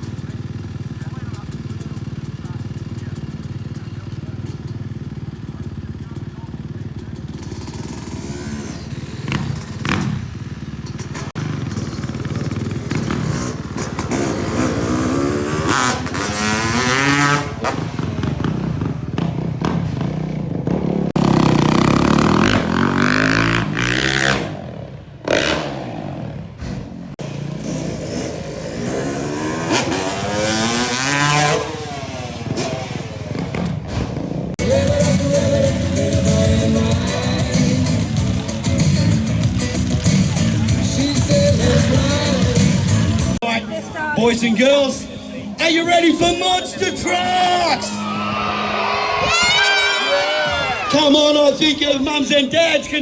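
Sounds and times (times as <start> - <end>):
motorbike engines revving: 0.0 - 53.0.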